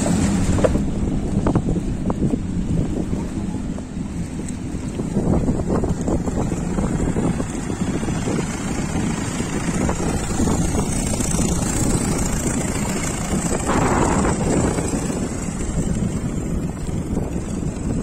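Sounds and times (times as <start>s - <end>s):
boat engine running: 0.0s - 18.0s
wind on microphone: 0.0s - 18.0s.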